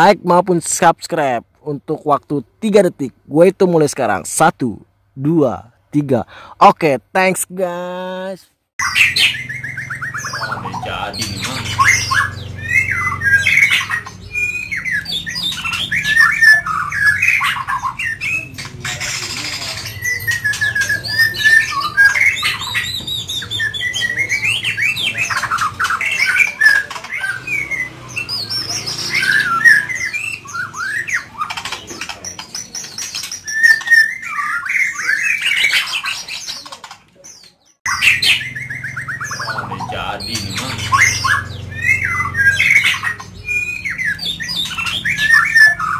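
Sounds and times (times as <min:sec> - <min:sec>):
bird singing: 0:07.2 - 0:45.9.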